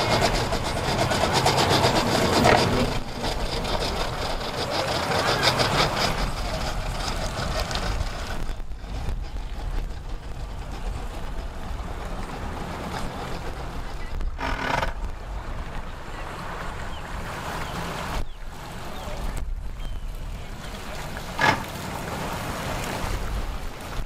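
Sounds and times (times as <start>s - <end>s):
boat engines idling: 0.0s - 24.0s
wind buffeting microphone: 0.0s - 24.0s.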